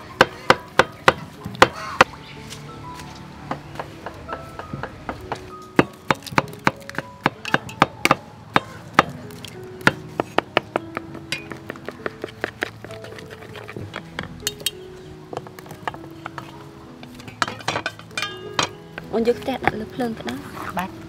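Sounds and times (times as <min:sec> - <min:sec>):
background music of held notes: 0:00.0 - 0:21.0.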